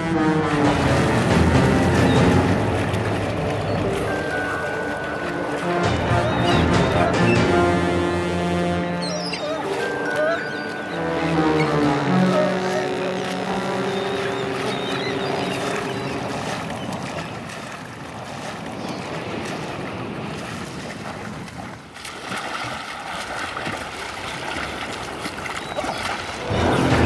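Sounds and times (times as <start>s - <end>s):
seawater splashing and churning: 0.0s - 27.0s.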